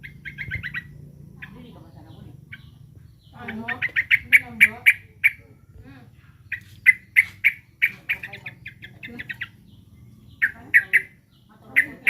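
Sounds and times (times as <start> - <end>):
bird alarm calls: 0.0 - 12.0.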